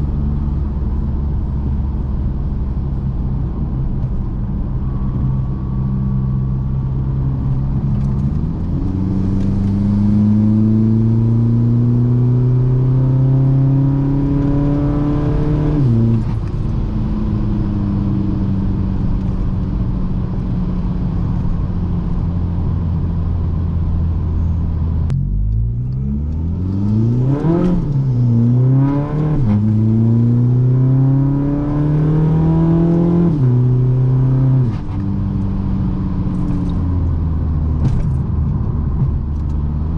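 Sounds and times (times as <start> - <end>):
diesel car engine accelerating: 0.0 - 39.9.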